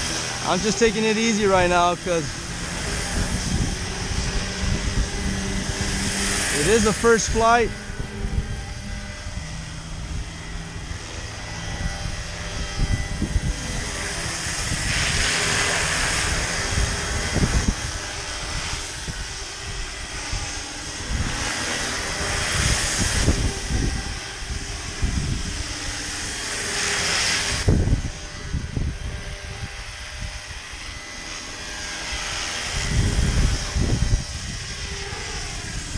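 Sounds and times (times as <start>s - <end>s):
rc helicopter rotor whine: 0.0s - 35.9s
wind buffeting microphone: 0.0s - 35.9s.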